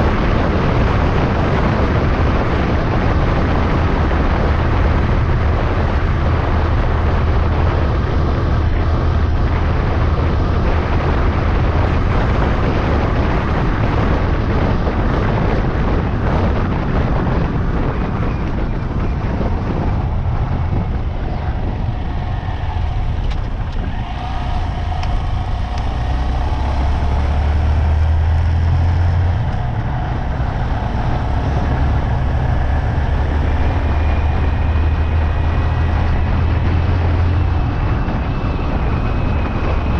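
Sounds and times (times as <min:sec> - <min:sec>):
motorcycle engine drone: 0:00.0 - 0:39.9
road and wind noise: 0:00.0 - 0:39.9.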